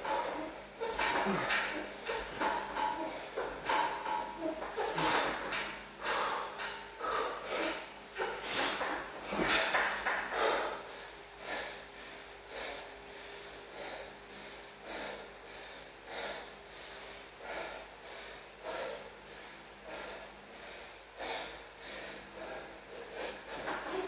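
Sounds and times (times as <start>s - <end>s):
man breathing hard: 0.0s - 24.0s.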